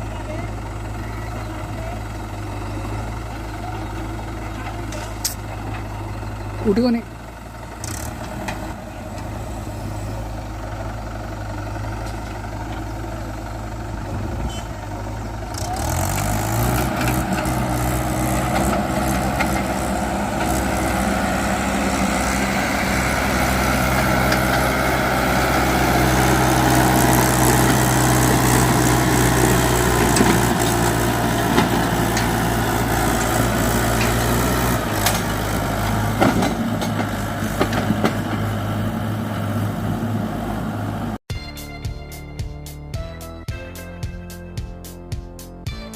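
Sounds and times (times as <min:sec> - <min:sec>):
tractor diesel engine revving: 0:00.0 - 0:41.2.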